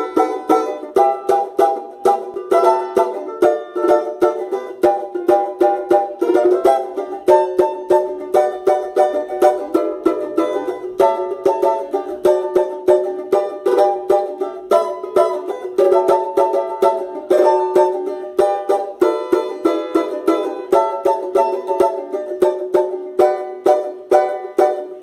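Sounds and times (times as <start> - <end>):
banjo plucking: 0.0 - 25.0.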